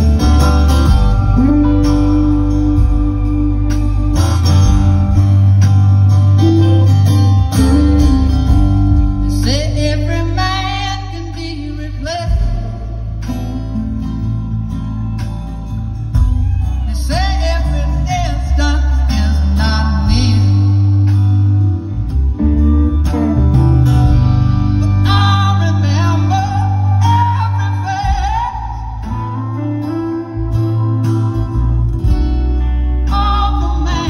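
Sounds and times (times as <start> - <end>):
electric guitar: 0.0 - 34.0
sliding lead melody: 0.0 - 34.0
upright bass: 0.0 - 34.0.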